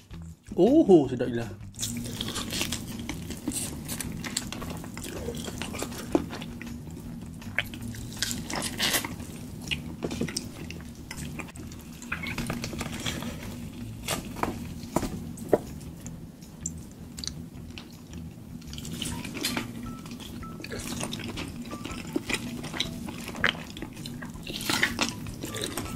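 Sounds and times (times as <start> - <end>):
low steady hum: 0.0 - 25.9
person chewing and lip-smacking: 1.6 - 14.8, 15.4 - 25.9.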